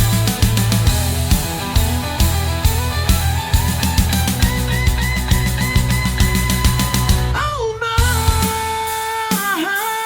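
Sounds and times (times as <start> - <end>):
rock song: 0.0 - 10.0.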